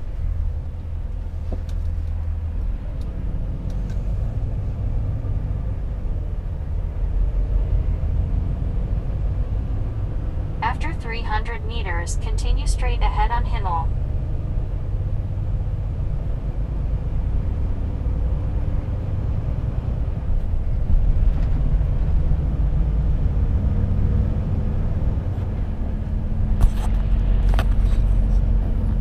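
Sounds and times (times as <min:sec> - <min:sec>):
truck diesel engine: 0:00.0 - 0:29.0.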